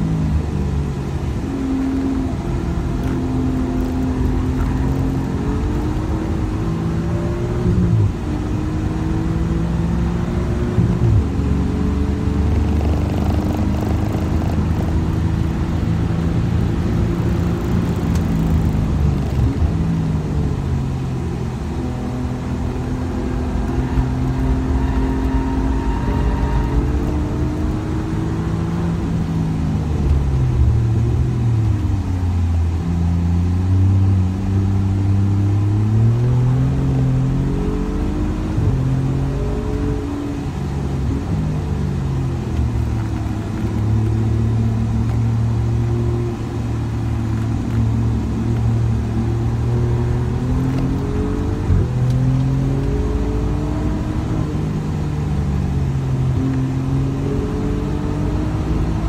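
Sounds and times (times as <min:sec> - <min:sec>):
car engine accelerating: 0:00.0 - 0:59.0
road and wind noise: 0:00.0 - 0:59.0.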